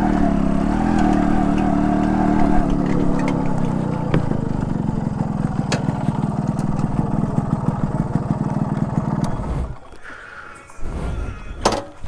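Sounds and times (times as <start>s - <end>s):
two-stroke engine running: 0.0s - 10.0s.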